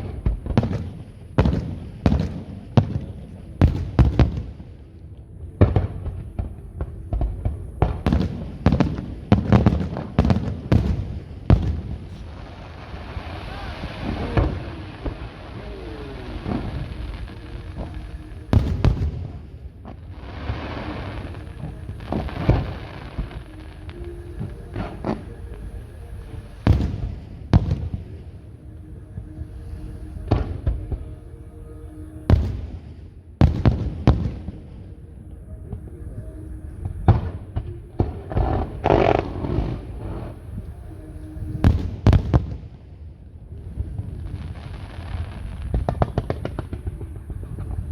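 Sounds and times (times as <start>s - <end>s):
fireworks booming: 0.0s - 4.8s, 5.6s - 28.4s, 32.3s - 34.8s, 36.8s - 40.6s, 41.4s - 47.9s.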